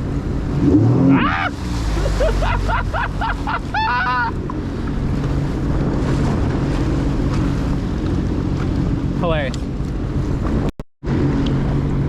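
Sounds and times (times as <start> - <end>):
jet ski engine running: 0.0 - 12.0
wind on microphone: 0.0 - 12.0.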